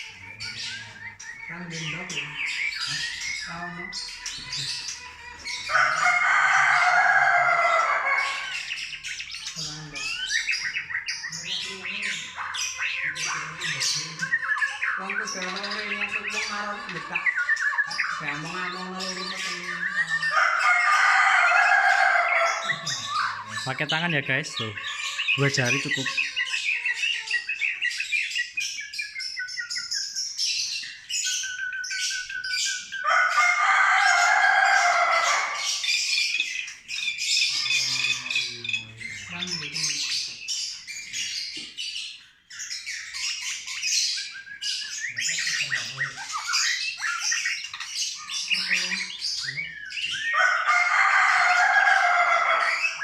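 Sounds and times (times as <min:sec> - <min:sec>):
harsh bird calls: 0:00.0 - 0:53.0
songbirds chirping and singing: 0:00.0 - 0:53.0.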